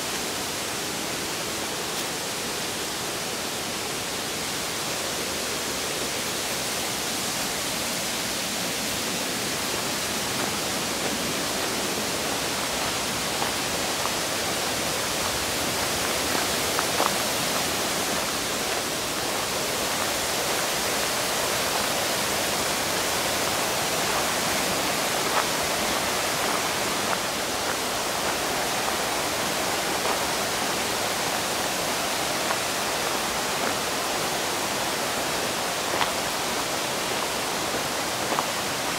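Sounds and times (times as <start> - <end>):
rushing mountain water: 0.0 - 38.9.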